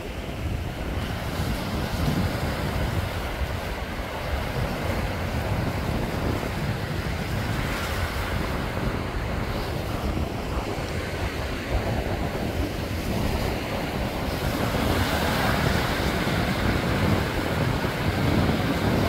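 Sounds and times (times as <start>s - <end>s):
surf washing up beach: 0.0s - 19.0s
wind buffeting microphone: 0.0s - 19.0s.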